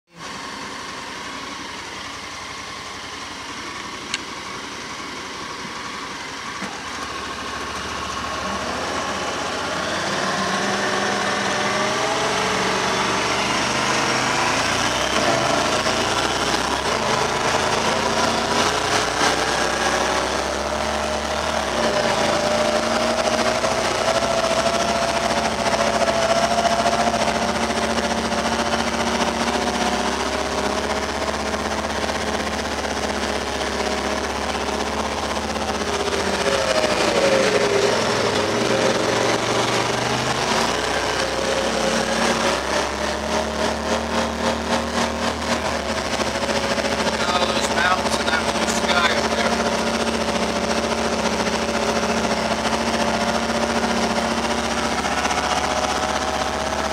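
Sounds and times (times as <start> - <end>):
utility vehicle engine running: 0.1 - 56.9.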